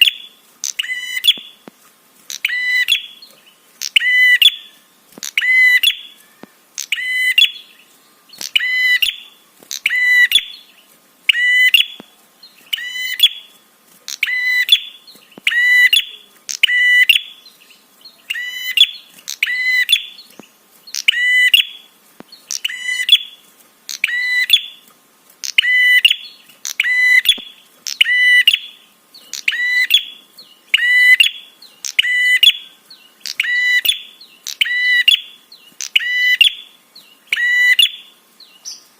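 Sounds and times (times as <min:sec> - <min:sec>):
bird chattering call recording: 0:00.0 - 0:01.6, 0:02.3 - 0:10.7, 0:11.3 - 0:13.5, 0:14.1 - 0:20.3, 0:20.9 - 0:21.8, 0:22.4 - 0:24.8, 0:25.4 - 0:36.7, 0:37.3 - 0:38.9.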